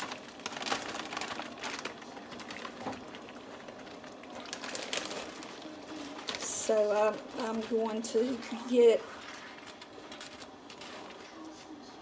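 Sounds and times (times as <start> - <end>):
frozen vegetables rattling into skillet: 0.0 - 11.7
plastic bag crinkling: 0.0 - 11.9.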